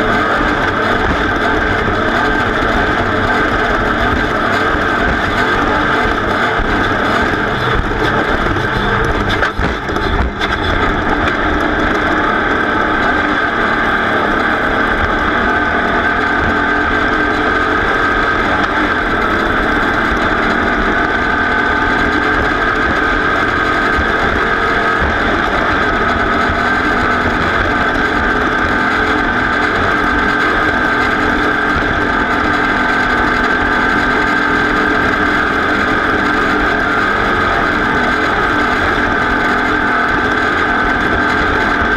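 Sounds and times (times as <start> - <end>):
race vehicle engine running hard: 0.0 - 41.9.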